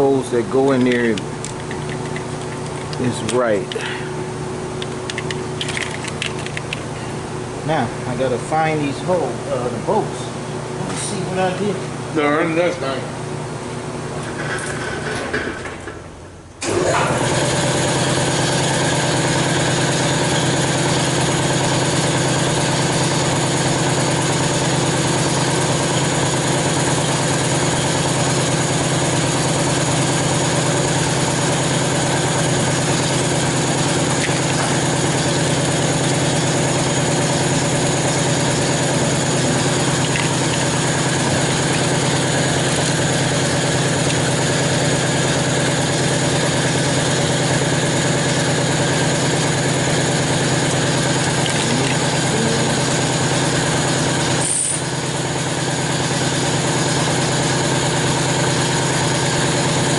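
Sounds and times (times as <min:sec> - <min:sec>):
machine droning: 0:00.0 - 0:59.9.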